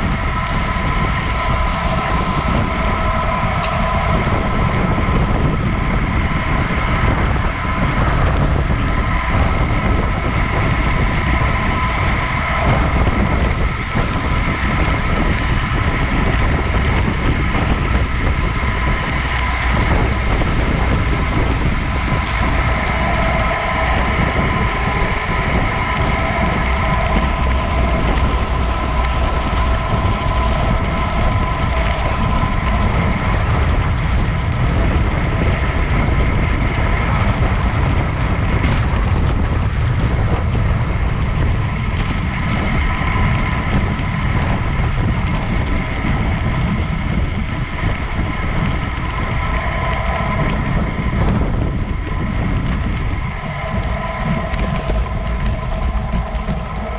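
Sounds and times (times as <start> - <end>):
faint steady whine: 0.0 - 56.9
tyres rumbling on asphalt: 0.0 - 56.9
wind rushing over microphone: 0.0 - 56.9.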